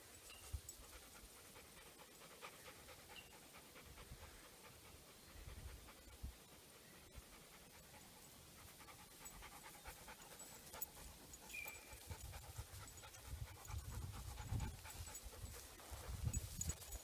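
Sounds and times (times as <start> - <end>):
dog panting: 0.4 - 17.0.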